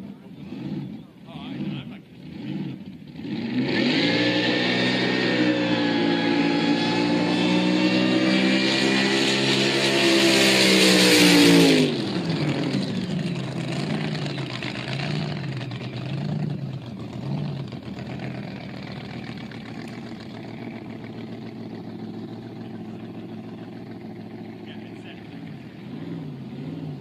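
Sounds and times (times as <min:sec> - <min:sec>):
speedboat engine passing: 0:00.0 - 0:27.0.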